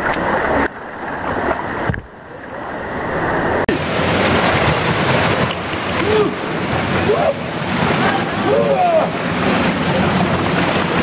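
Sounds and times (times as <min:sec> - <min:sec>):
stream water rushing over rock: 0:00.0 - 0:11.0.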